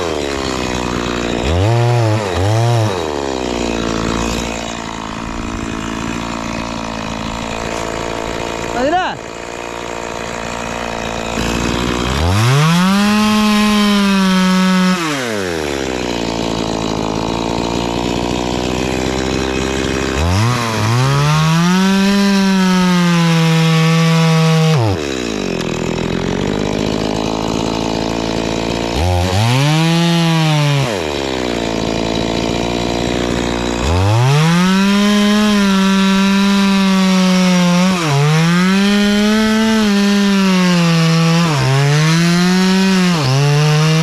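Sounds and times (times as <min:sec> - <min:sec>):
chainsaw revving and idling: 0:00.0 - 0:44.0.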